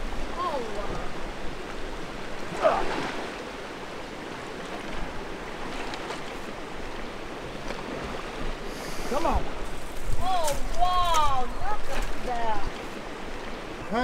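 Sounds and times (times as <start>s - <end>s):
river water splashing and lapping: 0.0s - 14.0s.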